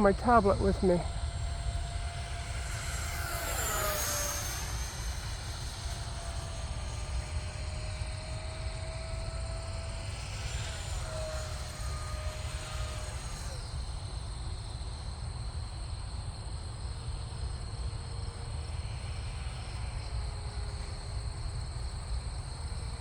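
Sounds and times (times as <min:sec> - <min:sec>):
model jet fan whine: 0:00.0 - 0:23.0.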